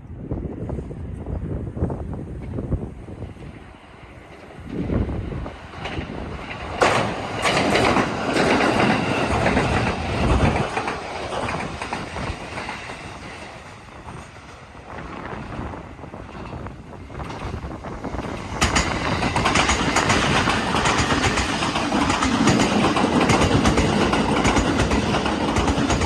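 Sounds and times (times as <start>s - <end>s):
wind on microphone: 0.0s - 26.0s
electric train passing: 0.1s - 26.0s.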